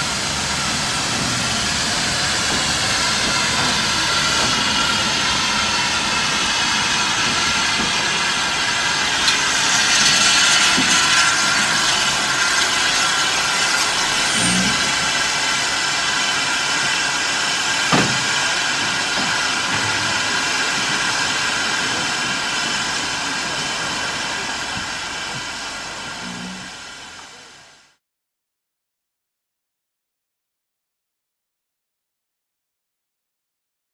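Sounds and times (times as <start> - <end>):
steam hissing from locomotive: 0.0 - 28.0.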